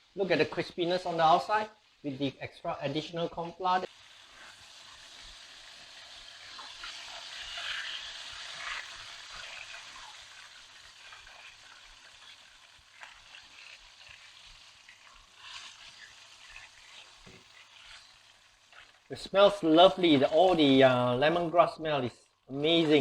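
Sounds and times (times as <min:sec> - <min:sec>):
oil sizzling during deep frying: 0:00.0 - 0:23.0.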